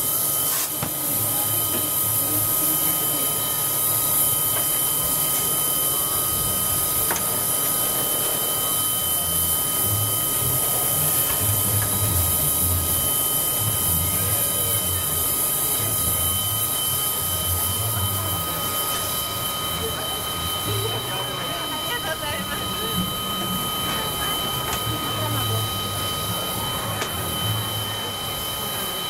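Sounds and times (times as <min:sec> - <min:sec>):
high whine: 0:00.0 - 0:29.0
steam hissing: 0:00.0 - 0:29.0.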